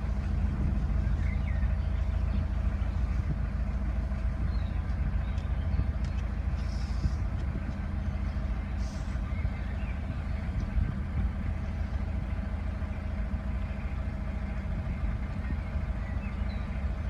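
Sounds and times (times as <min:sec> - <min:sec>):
boat engine low rumble: 0:00.0 - 0:17.0.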